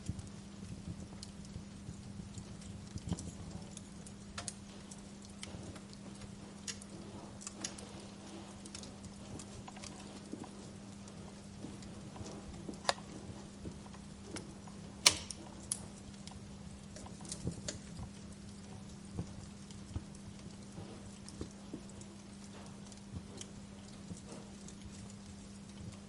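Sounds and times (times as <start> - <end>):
low steady hum: 0.0 - 26.0
wood fire crackling: 0.0 - 26.0.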